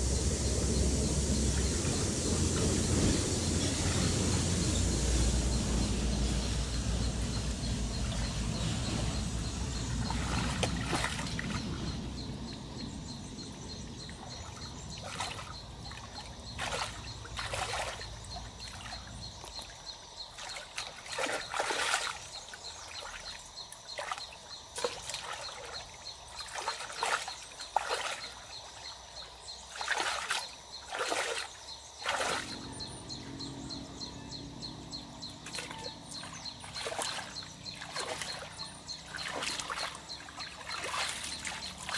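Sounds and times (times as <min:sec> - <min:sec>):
water splashing and sloshing: 0:00.0 - 0:41.9
water trickling: 0:00.0 - 0:41.9.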